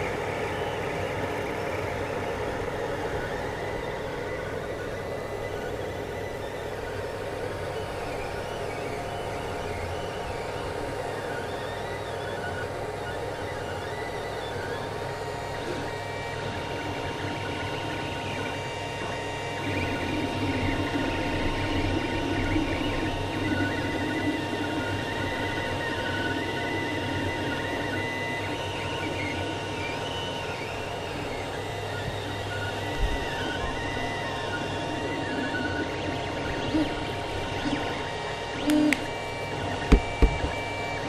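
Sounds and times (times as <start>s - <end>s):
steady hum: 0.0s - 41.0s
stepper motors whining: 0.5s - 41.0s.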